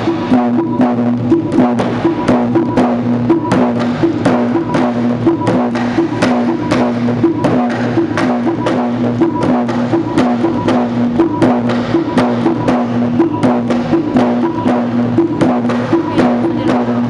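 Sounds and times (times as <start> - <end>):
low repeating two-note figure: 0.0 - 17.0
quick steady percussion strikes: 0.0 - 17.0.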